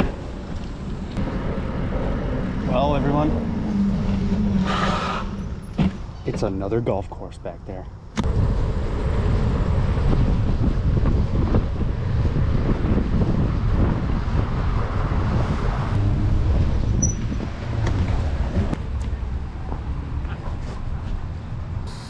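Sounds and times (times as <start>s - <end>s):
wind buffeting microphone: 0.0s - 7.0s, 7.6s - 21.9s.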